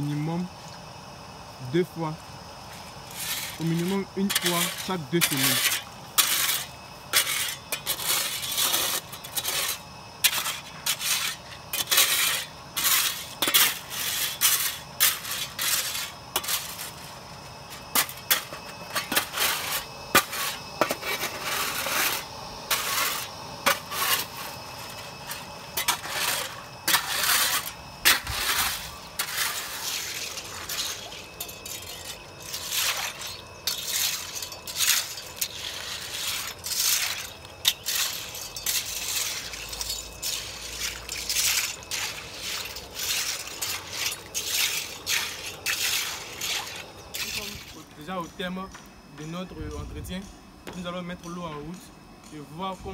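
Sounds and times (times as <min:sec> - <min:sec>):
shovel scraping wet gravel: 0:01.6 - 0:48.6.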